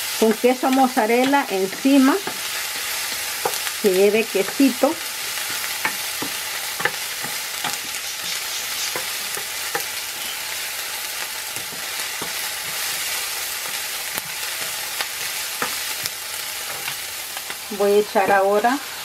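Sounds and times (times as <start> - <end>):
wooden spoon scraping a pan: 0.0 - 18.6
onion sizzling in a pan: 0.0 - 19.0.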